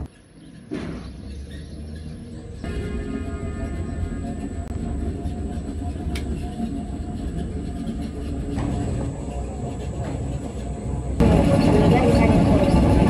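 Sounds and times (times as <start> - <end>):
factory machinery rumbling: 0.0 - 13.0
high machine whine: 2.3 - 13.0.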